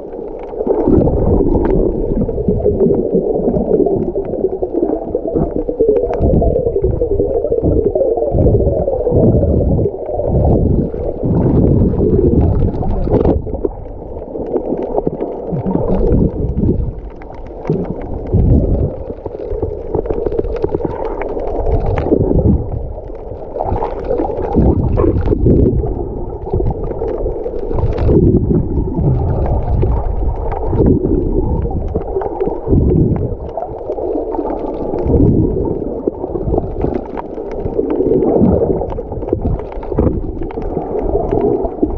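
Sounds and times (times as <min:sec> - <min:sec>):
underwater sloshing and gurgling: 0:00.0 - 0:41.9.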